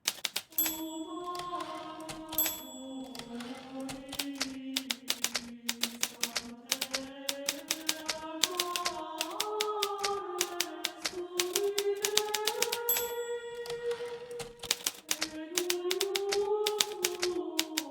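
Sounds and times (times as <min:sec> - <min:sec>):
typewriter key clacks: 0:00.0 - 0:17.9.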